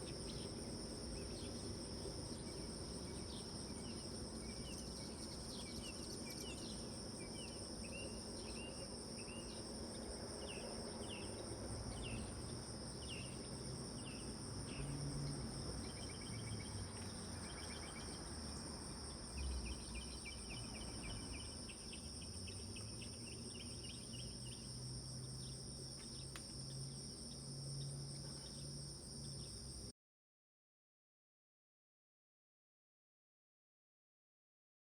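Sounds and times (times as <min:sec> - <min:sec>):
insect chirps: 0:00.0 - 0:29.9
insects trilling: 0:00.0 - 0:29.9.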